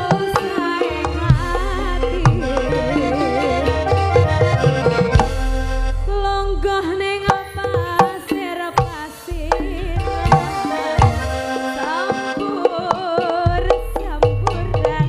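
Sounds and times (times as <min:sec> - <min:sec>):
woman singing through a microphone: 0:00.0 - 0:04.3, 0:06.0 - 0:15.0
live band accompaniment: 0:00.0 - 0:15.0.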